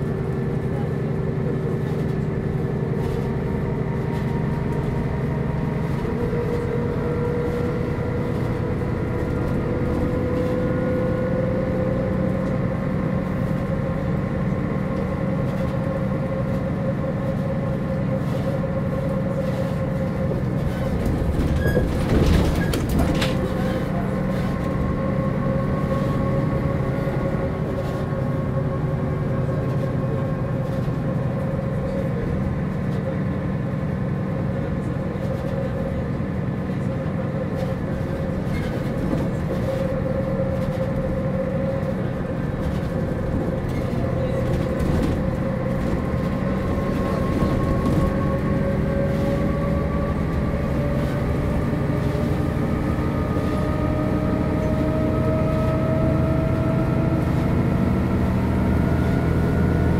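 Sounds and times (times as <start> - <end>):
bus engine drone and whine: 0.0 - 59.9.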